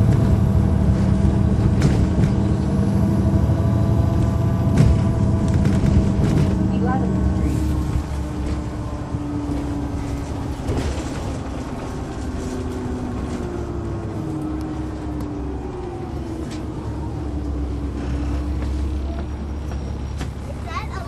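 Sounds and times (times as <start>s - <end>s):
bus diesel engine rumbling: 0.0s - 21.0s.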